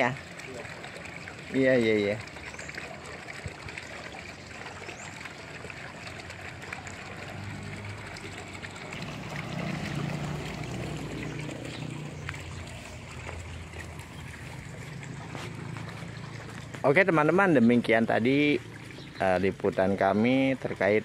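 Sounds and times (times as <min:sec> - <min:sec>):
light water splashes: 0:00.0 - 0:21.0
water trickling and sloshing: 0:00.0 - 0:21.0.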